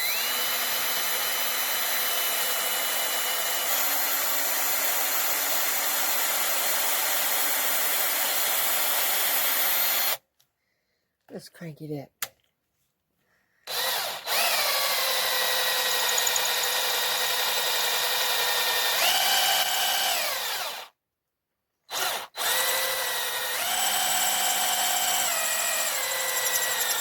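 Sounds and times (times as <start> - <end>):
electric drill whining: 0.0 - 10.2, 13.7 - 20.9, 21.9 - 27.0.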